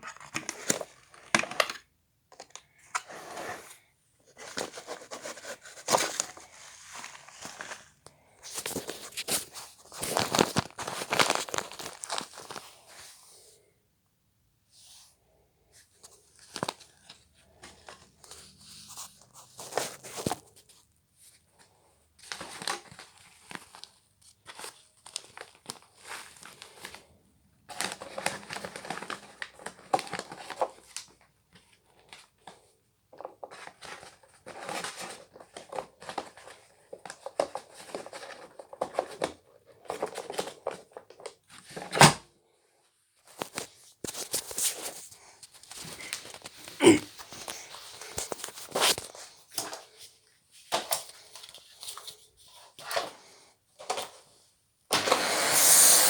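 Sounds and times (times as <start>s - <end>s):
crinkling and rustling: 0.0s - 13.1s, 15.7s - 27.1s, 27.7s - 42.0s, 43.1s - 54.5s.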